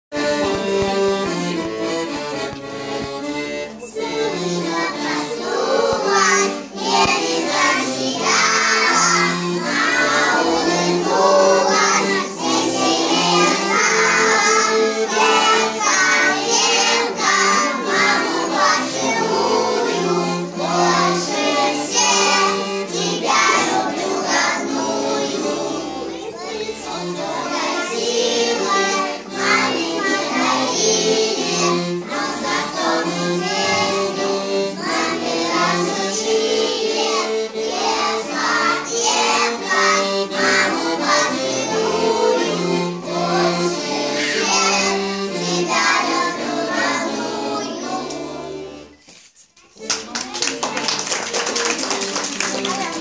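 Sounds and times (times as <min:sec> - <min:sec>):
instrumental accompaniment: 0:00.1 - 0:53.0
children singing: 0:00.2 - 0:53.0.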